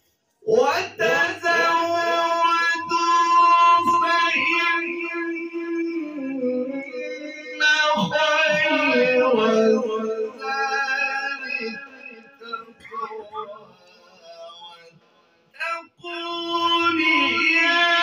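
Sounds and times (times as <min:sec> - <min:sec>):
man reciting melodically: 0:00.4 - 0:18.0.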